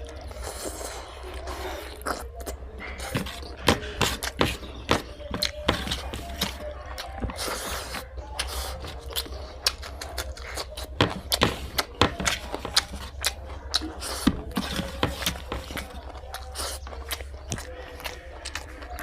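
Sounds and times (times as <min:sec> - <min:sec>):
wet chewing clicks and smacks: 0:00.0 - 0:19.0.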